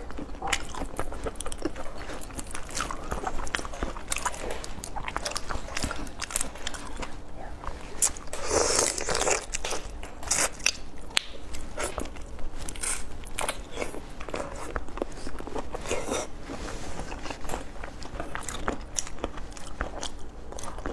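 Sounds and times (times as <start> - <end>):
person chewing shrimp: 0.0 - 20.9.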